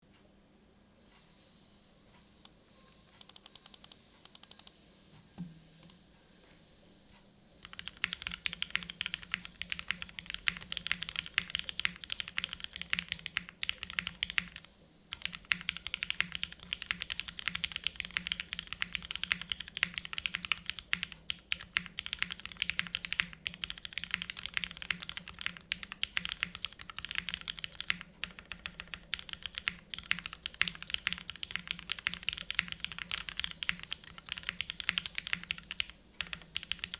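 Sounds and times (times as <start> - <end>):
fast typing on mechanical keyboard: 3.2 - 4.7, 7.6 - 36.9.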